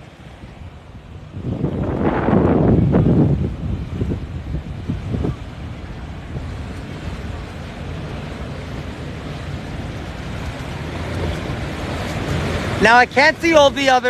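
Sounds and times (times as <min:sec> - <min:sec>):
wind noise on microphone: 0:00.0 - 0:12.9
boat traffic rumble: 0:00.0 - 0:14.0
water: 0:00.0 - 0:14.0.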